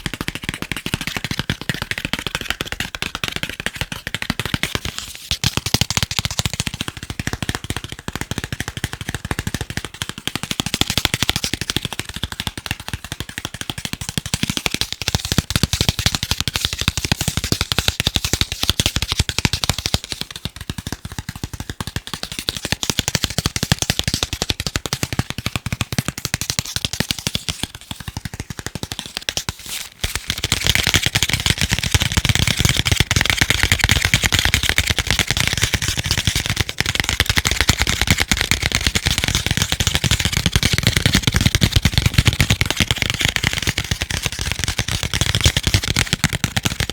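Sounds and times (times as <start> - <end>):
fast tapping on chocolate: 0.0 - 46.9.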